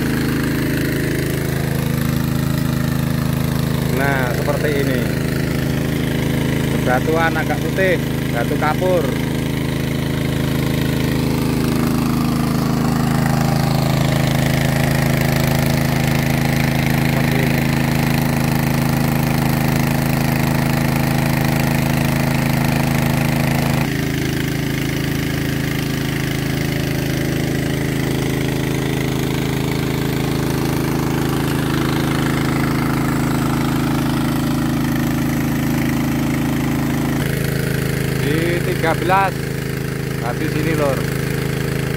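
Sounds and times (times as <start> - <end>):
small petrol engine running: 0.0 - 41.9.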